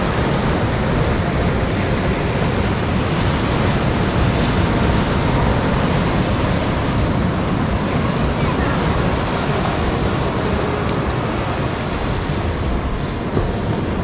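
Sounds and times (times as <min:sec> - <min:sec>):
ocean surf rushing: 0:00.0 - 0:14.0.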